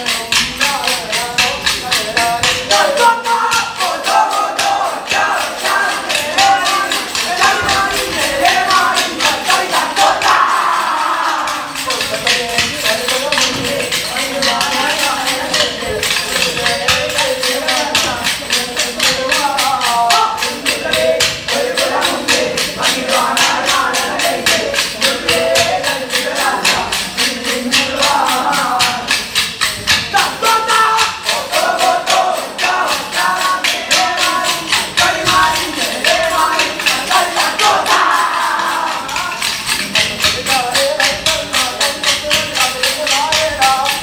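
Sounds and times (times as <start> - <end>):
people singing: 0.0 - 44.0
wooden sticks clacking: 0.0 - 44.0.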